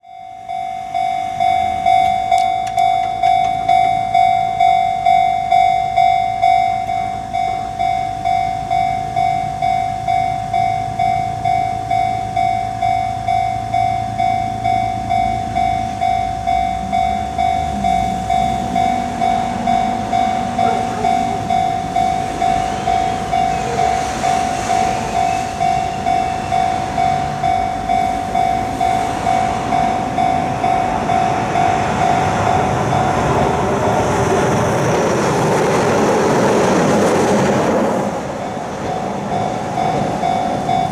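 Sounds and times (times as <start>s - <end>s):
electric train rumbling: 0.0s - 40.9s
level-crossing warning bell: 0.0s - 40.9s.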